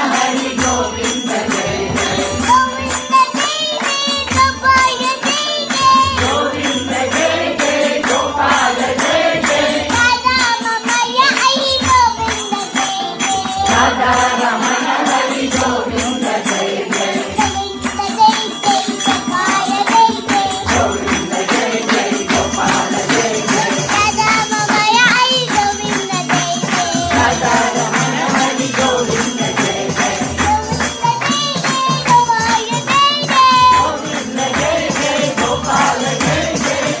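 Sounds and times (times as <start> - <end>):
child singing into microphone: 0.0 - 6.9, 8.5 - 37.0
jingling hand percussion: 0.0 - 37.0
other voices singing: 0.0 - 37.0.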